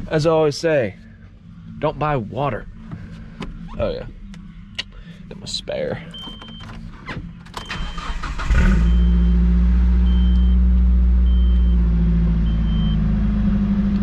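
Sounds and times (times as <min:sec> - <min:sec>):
car engine cranking and idling: 0:00.0 - 0:14.0.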